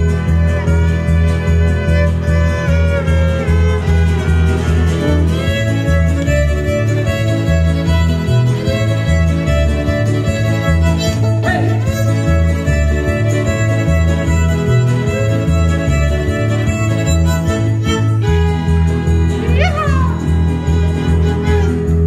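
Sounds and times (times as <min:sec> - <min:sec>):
acoustic guitar rhythm: 0:00.0 - 0:22.0
violin melody: 0:00.0 - 0:22.0.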